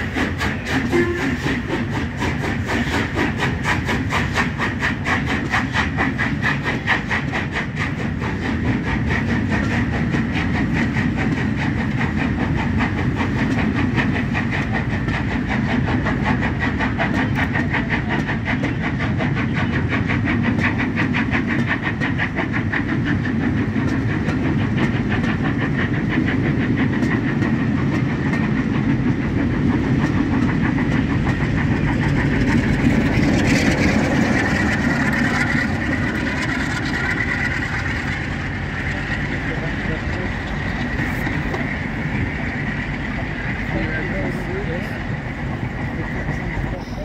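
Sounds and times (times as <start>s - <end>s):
diesel locomotive engine running: 0.0s - 47.0s
wheels clicking over rail joints: 0.0s - 47.0s.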